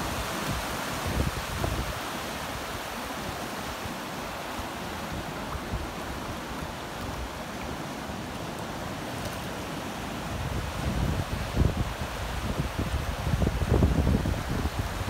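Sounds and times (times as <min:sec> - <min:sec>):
small waves washing on sand: 0:00.0 - 0:15.0.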